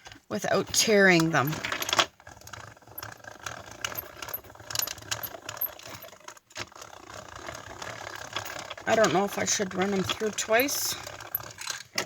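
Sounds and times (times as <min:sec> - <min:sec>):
metallic clicks and rattles: 0:00.0 - 0:12.0.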